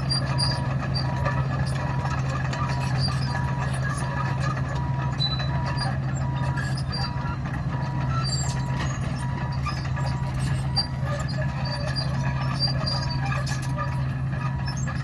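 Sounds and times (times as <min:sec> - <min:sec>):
bulldozer diesel engine running: 0:00.0 - 0:15.0
reversing alarm beeping: 0:00.1 - 0:15.0.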